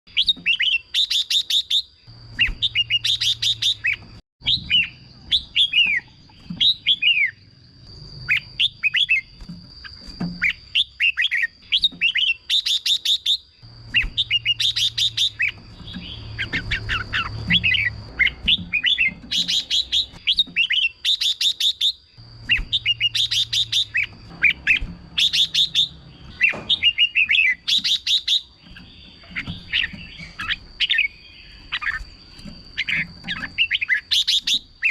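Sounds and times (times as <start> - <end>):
bird singing whistled notes: 0.1 - 34.9.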